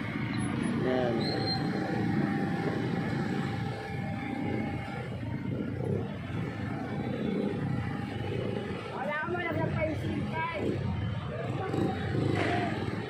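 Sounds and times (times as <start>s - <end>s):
low rumble of engines: 0.0s - 13.0s.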